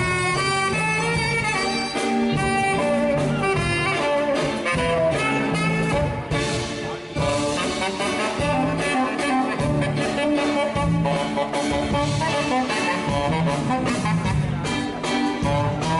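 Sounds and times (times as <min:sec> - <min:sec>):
live band playing: 0:00.0 - 0:15.9.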